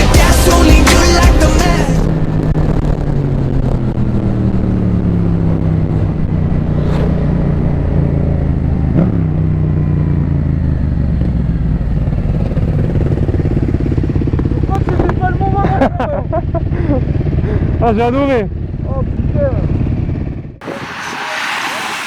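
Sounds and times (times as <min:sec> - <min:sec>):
motorcycle engine running: 0:00.0 - 0:20.7.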